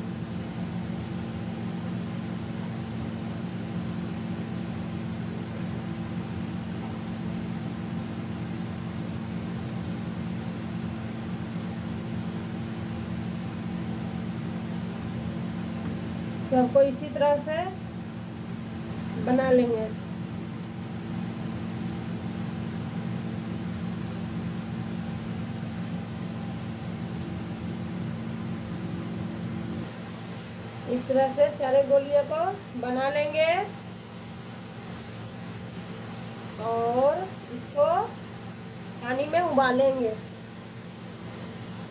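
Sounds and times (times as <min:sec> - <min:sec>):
low mechanical hum with hiss: 0:00.0 - 0:41.9.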